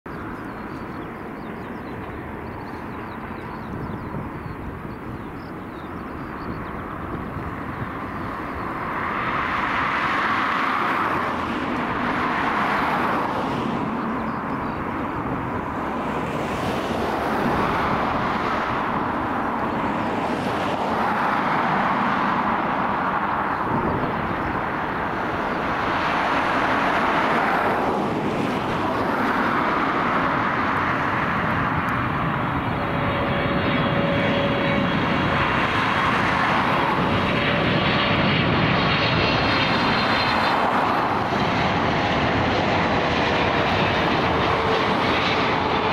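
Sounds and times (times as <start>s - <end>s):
jet airliner engines: 0.1s - 45.9s.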